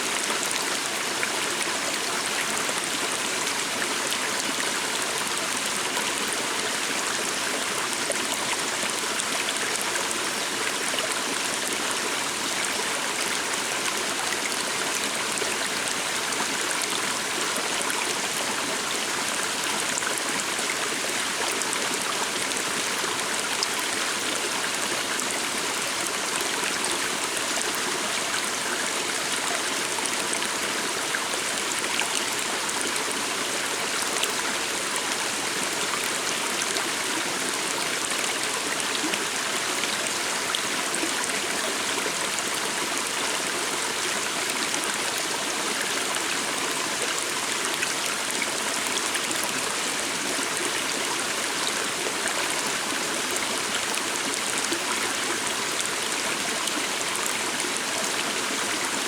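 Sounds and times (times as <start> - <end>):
stream water over stones: 0.0 - 59.0.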